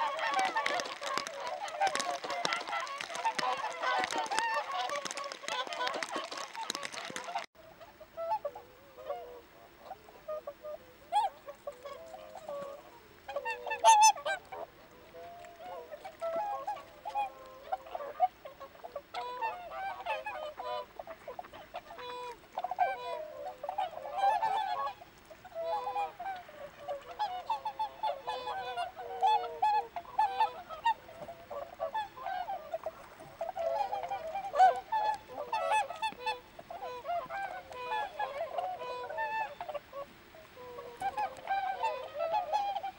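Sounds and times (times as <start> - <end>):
swans honking: 0.0 - 42.9.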